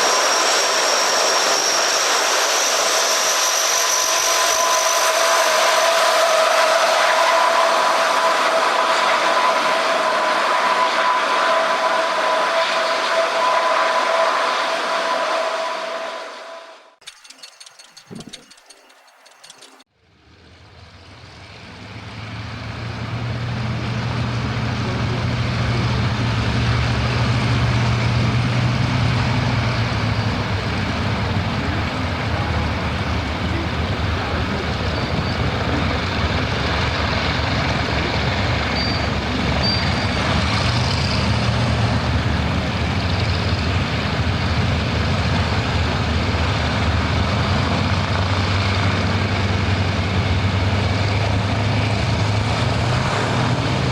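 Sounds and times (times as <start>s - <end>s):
aircraft engines roaring: 0.0s - 14.1s, 17.3s - 53.9s.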